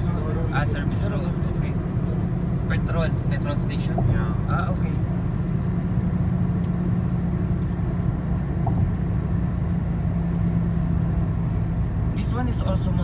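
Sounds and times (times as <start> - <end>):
car cabin road and engine drone: 0.0 - 13.0.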